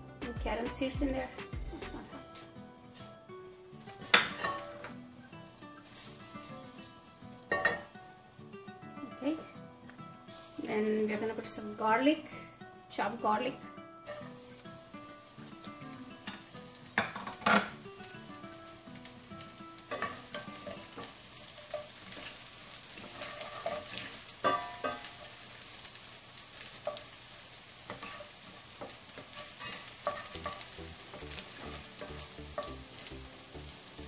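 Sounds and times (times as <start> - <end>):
garlic sizzling in hot oil: 2.4 - 34.0.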